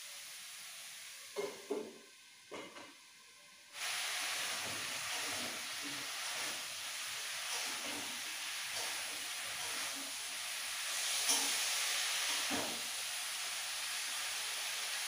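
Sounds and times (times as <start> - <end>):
food sizzling in oil: 0.0 - 2.6, 3.7 - 15.0.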